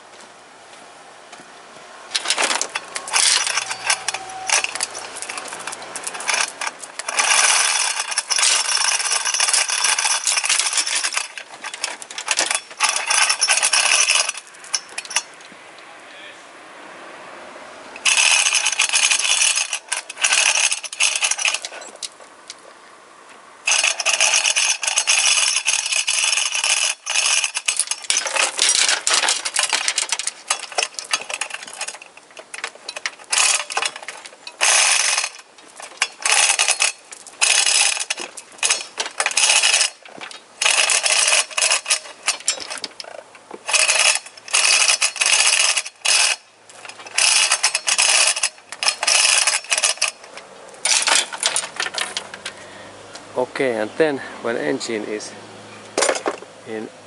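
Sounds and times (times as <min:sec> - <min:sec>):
chain hoist ratchet clicking: 0:02.1 - 0:15.4, 0:18.0 - 0:22.1, 0:23.7 - 0:52.6
chain rattling: 0:02.1 - 0:15.5, 0:18.0 - 0:22.2, 0:23.7 - 0:52.6.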